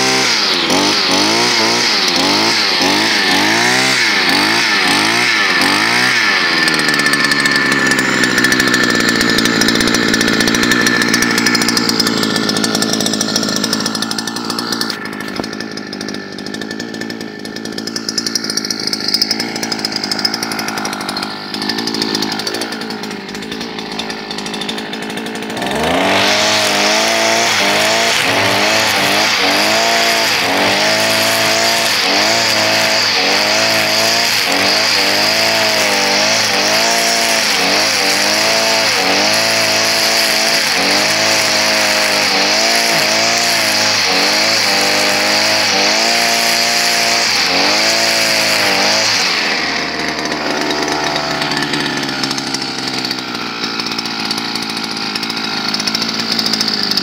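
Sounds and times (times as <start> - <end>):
brush cutter engine cutting grass: 0.0 - 57.0.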